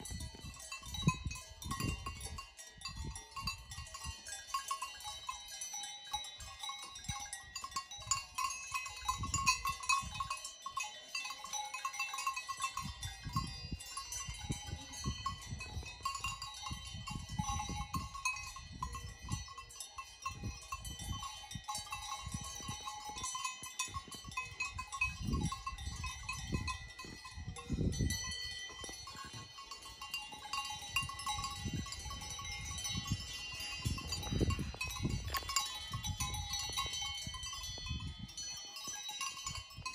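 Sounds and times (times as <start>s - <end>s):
livestock bells clanking: 0.0s - 39.9s.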